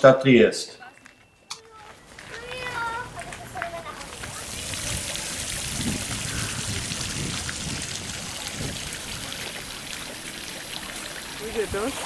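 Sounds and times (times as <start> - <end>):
fountain splashing into stone basin: 1.6 - 12.0.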